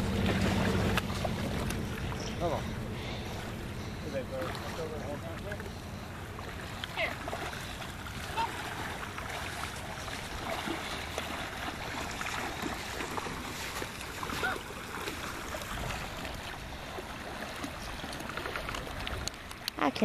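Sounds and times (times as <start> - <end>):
shallow water lapping: 0.0 - 20.0.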